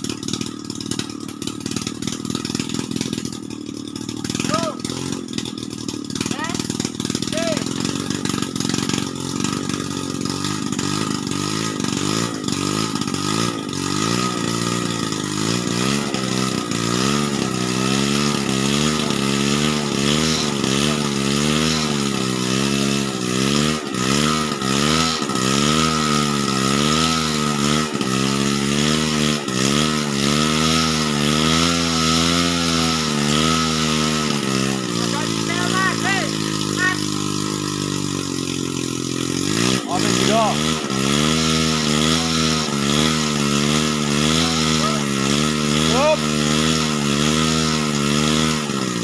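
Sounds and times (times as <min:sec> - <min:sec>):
engine running under varying load: 0:00.0 - 0:49.0.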